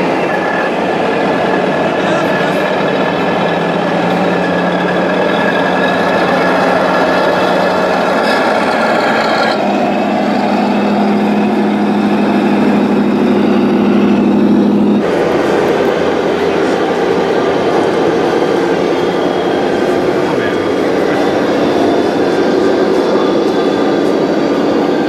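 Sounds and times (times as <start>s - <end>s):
high-pitched whine: 0.0s - 25.0s
model truck engine running: 0.0s - 25.0s.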